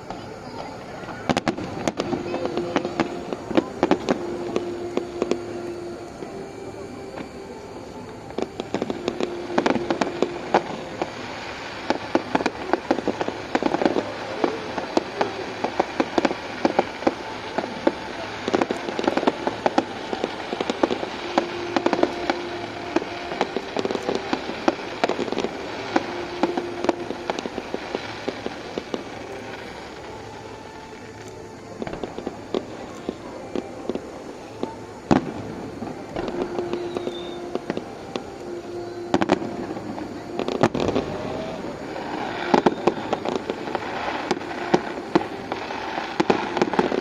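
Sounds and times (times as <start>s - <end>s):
fireworks cracking and popping: 0.0s - 47.0s.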